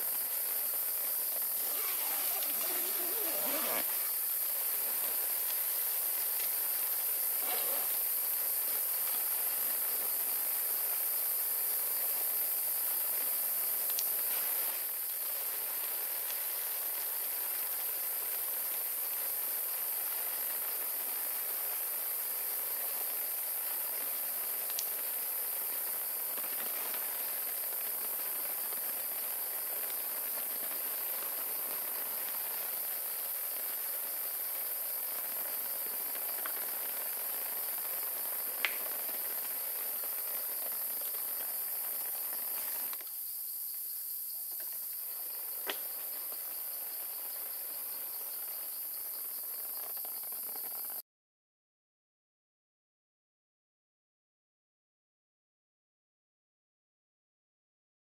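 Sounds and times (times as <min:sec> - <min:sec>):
soft even hiss: 0:00.0 - 0:49.1
crickets chirping: 0:00.0 - 0:51.0.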